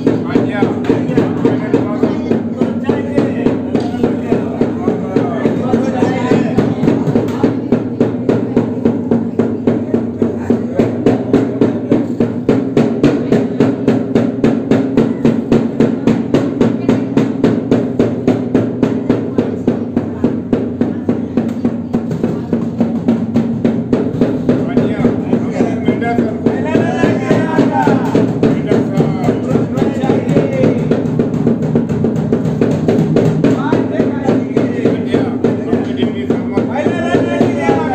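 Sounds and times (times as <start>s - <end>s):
barrel drum beating: 0.0s - 37.9s.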